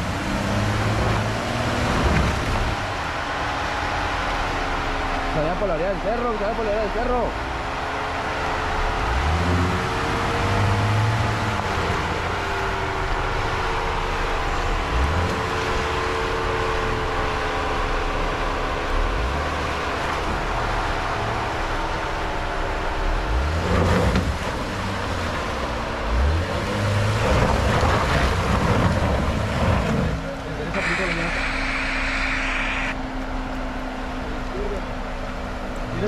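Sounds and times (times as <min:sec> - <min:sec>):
engine running at low revs: 0:00.0 - 0:36.0
low engine rumbles: 0:00.0 - 0:36.0.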